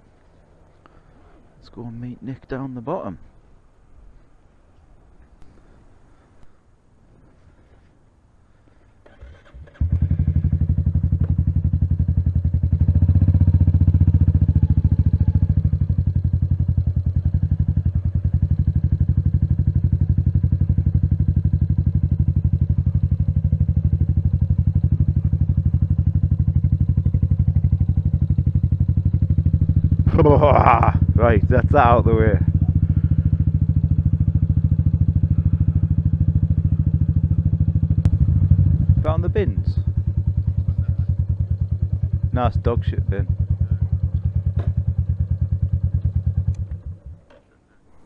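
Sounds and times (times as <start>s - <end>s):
motorcycle engine starting and idling: 9.0s - 47.8s.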